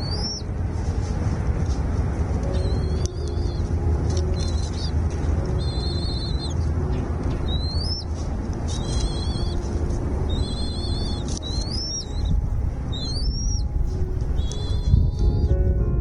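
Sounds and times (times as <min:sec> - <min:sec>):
small bird calling: 0:00.0 - 0:00.5, 0:02.4 - 0:15.5
low rumble: 0:00.0 - 0:16.0.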